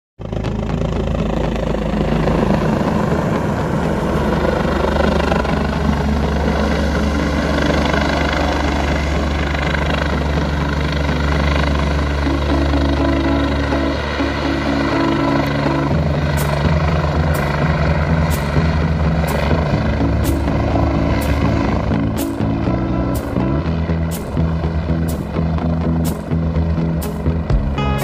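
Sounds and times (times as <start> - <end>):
helicopter rotor drone: 0.2 - 28.0.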